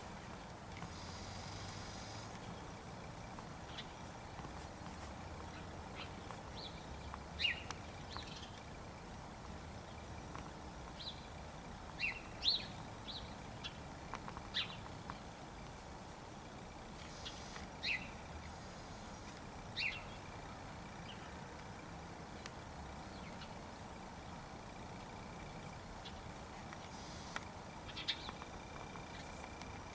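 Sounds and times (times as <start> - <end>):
birds chirping: 0.8 - 15.7, 16.3 - 19.0, 19.6 - 29.9.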